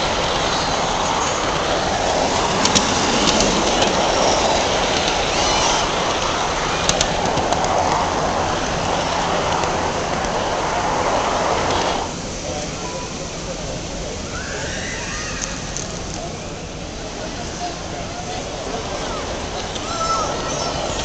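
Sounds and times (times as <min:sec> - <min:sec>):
model train wheels and motor rushing: 0:00.0 - 0:21.0.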